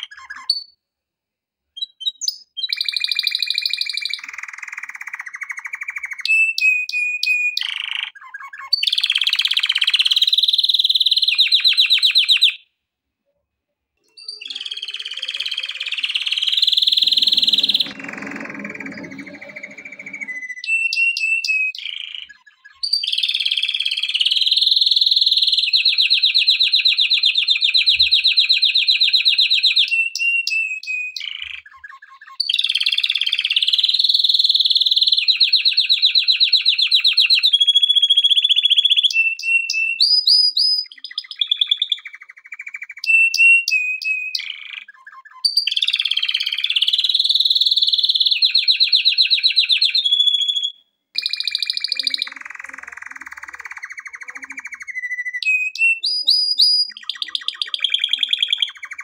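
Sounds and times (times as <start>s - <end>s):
canary singing trills: 0.0s - 0.8s, 1.8s - 12.7s, 14.0s - 59.0s.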